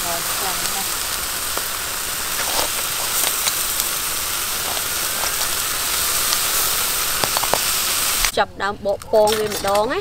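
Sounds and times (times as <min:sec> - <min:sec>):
meat sizzling on a grill: 0:00.0 - 0:08.3.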